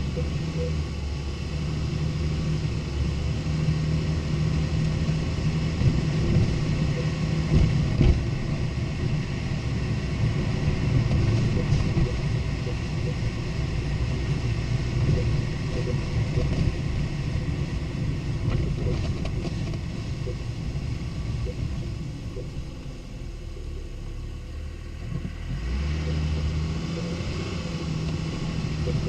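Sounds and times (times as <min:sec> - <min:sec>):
steady low hum: 0:00.0 - 0:24.9
road and tyre rumble: 0:00.0 - 0:29.0.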